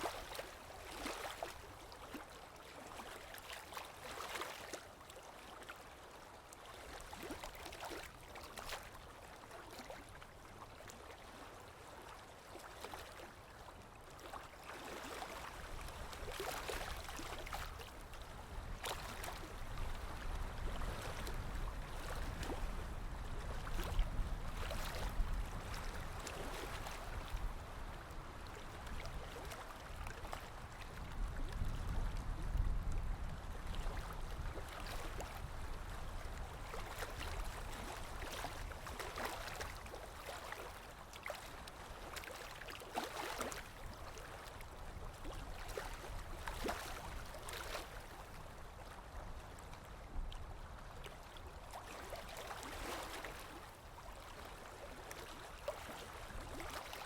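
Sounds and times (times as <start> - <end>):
water splashes: 0.0 - 5.7, 6.5 - 49.7, 50.6 - 57.0
waves washing and lapping: 0.0 - 57.0.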